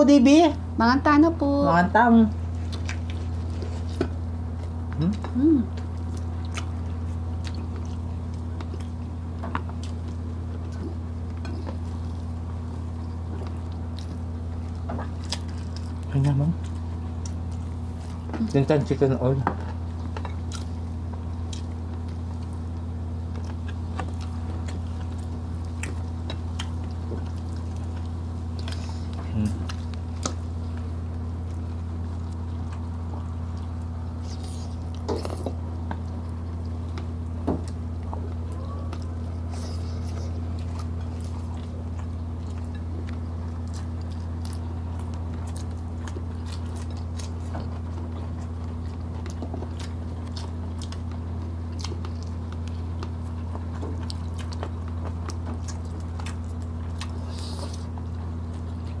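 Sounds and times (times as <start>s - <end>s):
chewing and biting food: 2.3s - 59.0s.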